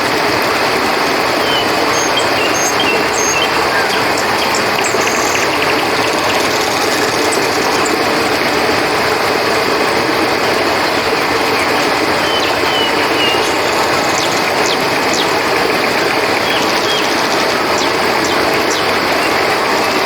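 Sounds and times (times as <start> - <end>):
river water flowing: 0.0 - 20.0
crickets chirping: 1.0 - 20.0.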